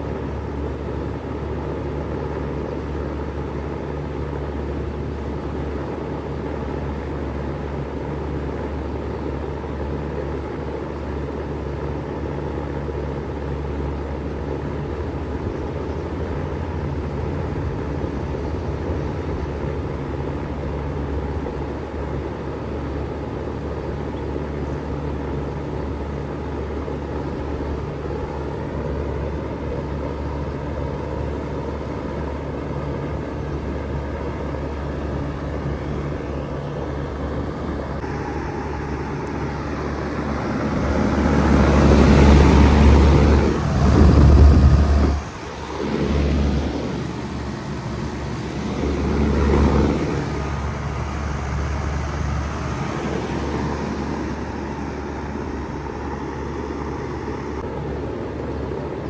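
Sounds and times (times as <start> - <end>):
heat pump humming: 0.0 - 59.0.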